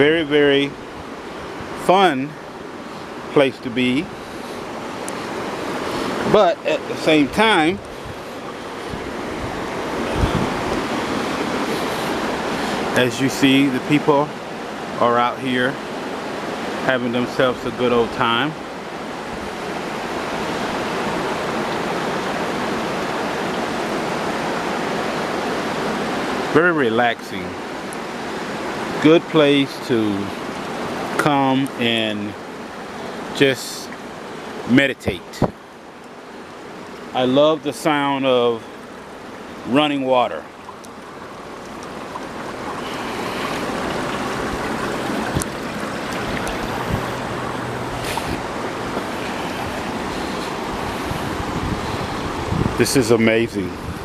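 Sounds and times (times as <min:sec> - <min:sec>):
river rapids rushing: 0:00.0 - 0:54.0.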